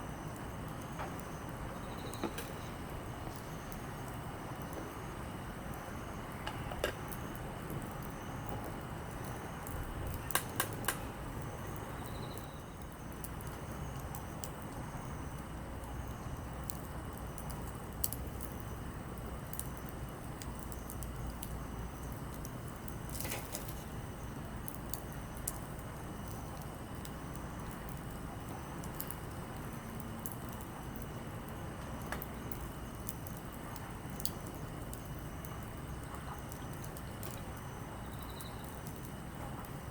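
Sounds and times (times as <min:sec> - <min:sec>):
campfire crackling and popping: 0:00.0 - 0:39.9
low rustle of flame: 0:00.0 - 0:39.9.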